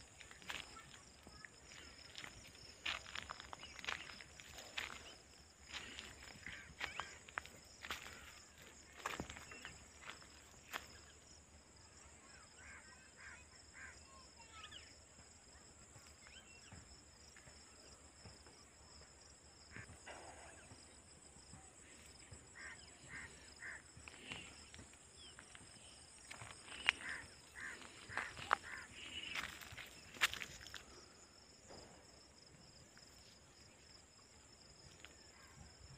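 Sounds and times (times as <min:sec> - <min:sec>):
insects trilling: 0:00.0 - 0:15.0, 0:16.0 - 0:35.9
insect chirps: 0:00.0 - 0:35.9.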